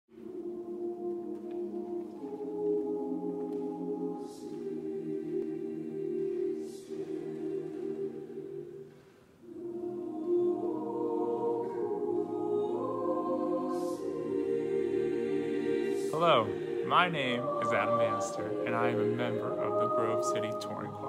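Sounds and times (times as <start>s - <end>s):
choir singing held chords: 0.1s - 21.0s.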